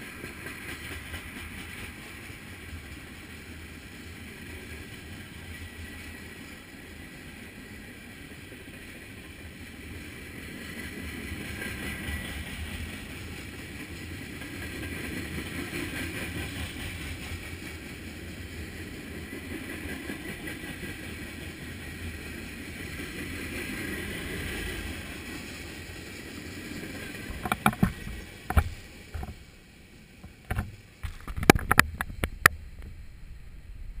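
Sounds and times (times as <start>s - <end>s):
freight train wheels rumbling on rail: 0.0s - 34.0s.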